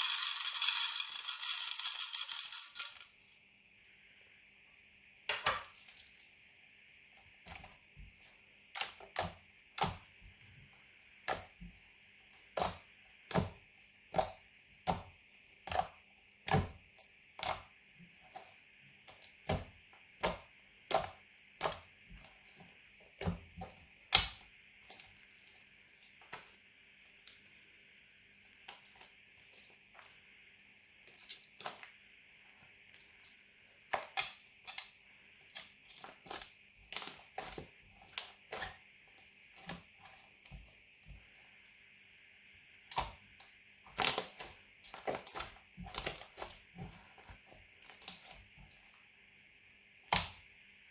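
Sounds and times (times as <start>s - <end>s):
faint steady hiss: 0.0s - 50.9s.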